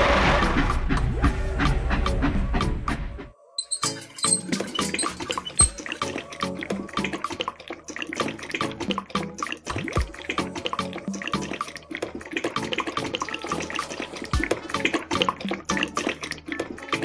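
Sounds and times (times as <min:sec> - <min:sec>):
background music with steady beat: 0:01.7 - 0:07.5, 0:08.1 - 0:17.0.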